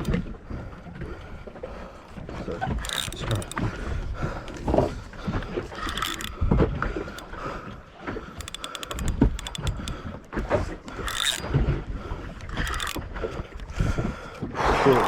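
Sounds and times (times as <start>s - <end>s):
fishing reel ticking: 0.0s - 0.2s, 2.5s - 15.0s.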